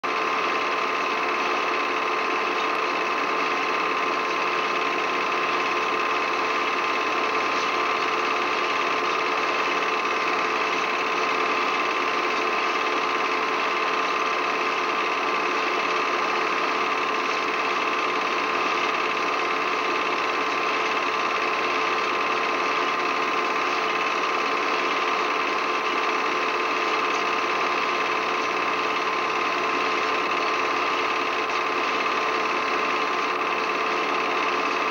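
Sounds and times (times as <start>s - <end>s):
mechanical whir with high hum: 0.0s - 34.9s.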